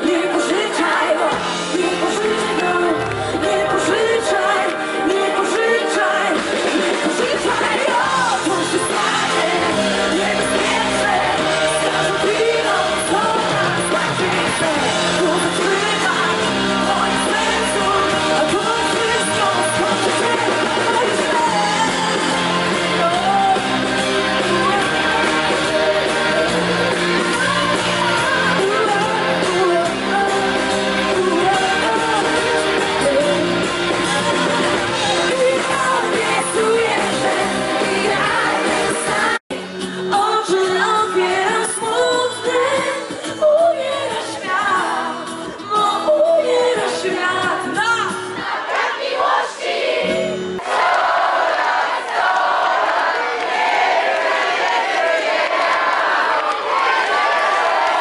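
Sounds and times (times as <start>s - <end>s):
woman singing into microphone: 0.0s - 48.4s
amplified band with electric guitars: 0.0s - 48.6s.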